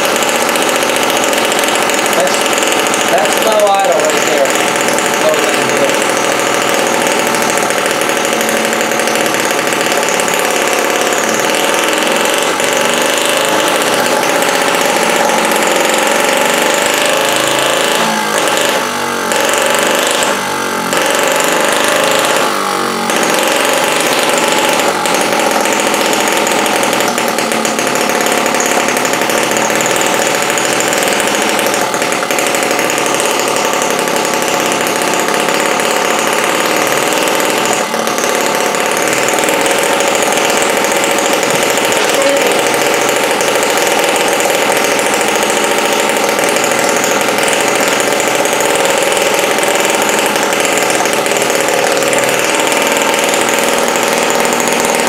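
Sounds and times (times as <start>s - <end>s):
model engine running at high speed: 0.0s - 55.0s.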